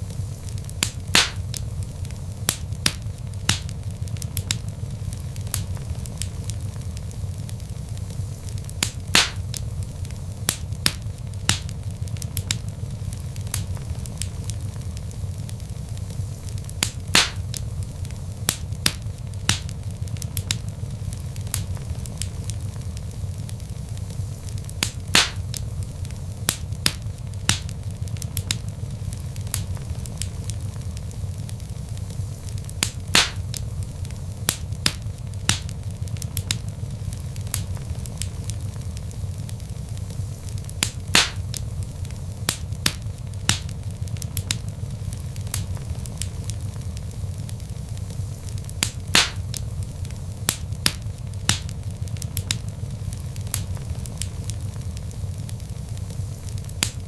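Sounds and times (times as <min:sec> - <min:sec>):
logs burning in fireplace: 0:00.0 - 0:57.0.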